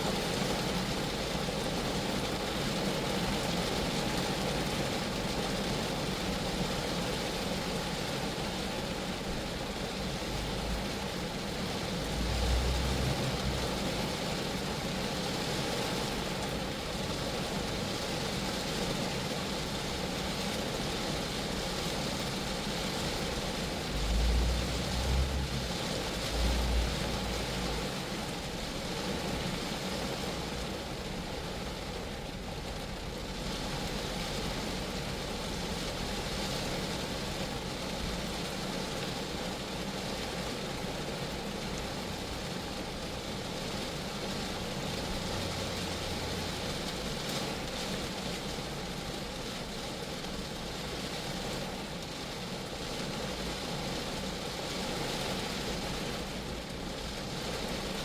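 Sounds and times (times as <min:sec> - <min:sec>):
rain falling on a car: 0:00.0 - 0:58.0.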